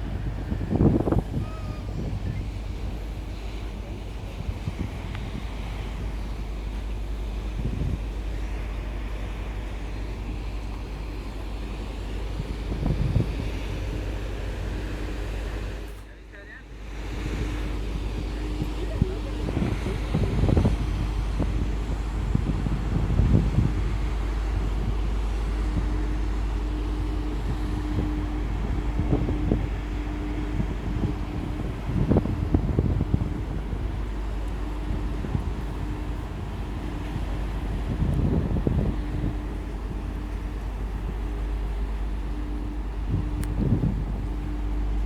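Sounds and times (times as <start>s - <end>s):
wind buffeting microphone: 0.0s - 15.9s, 16.7s - 45.0s
steady hum: 0.0s - 45.0s.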